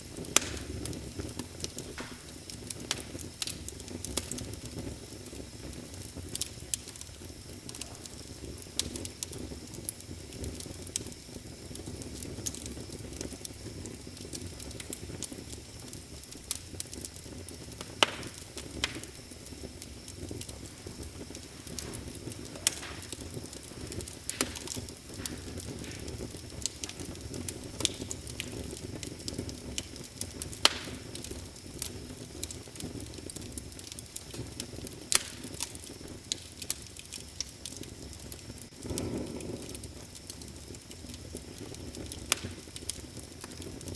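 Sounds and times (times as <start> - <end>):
loud pops of fire: 0.0 - 43.9
wood fire crackling: 0.0 - 43.9.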